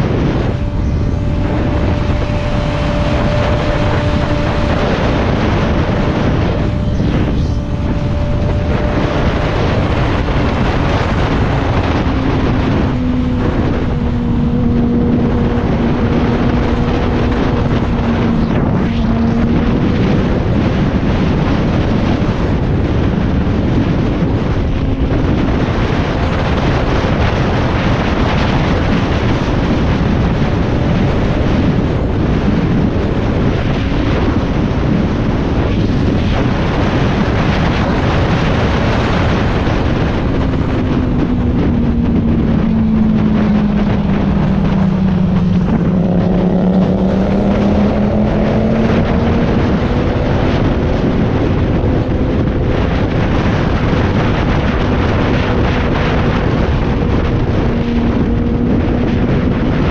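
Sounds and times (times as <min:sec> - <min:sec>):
motorcycle engine drone: 0:00.0 - 0:59.9
wind rush on microphone: 0:00.0 - 0:59.9.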